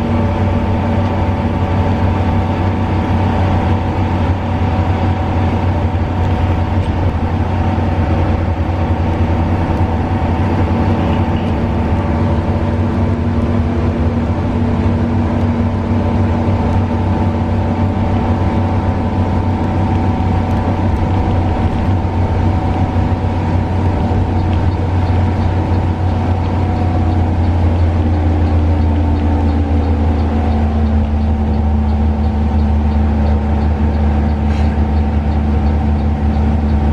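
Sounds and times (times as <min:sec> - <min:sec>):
bus diesel engine drone: 0:00.0 - 0:36.9
road and tyre noise: 0:00.0 - 0:36.9.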